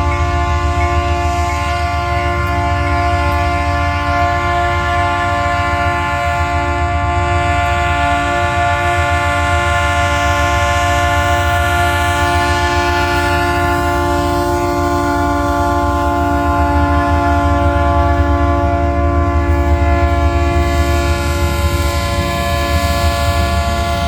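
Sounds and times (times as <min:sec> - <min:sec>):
locomotive air horn blast: 0:00.0 - 0:24.0
locomotive engine rumble: 0:00.0 - 0:24.0.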